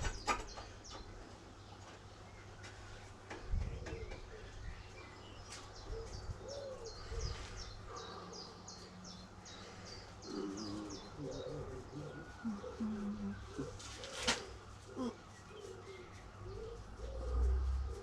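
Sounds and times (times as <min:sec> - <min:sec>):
lower pitched bird calls: 0:02.3 - 0:18.0.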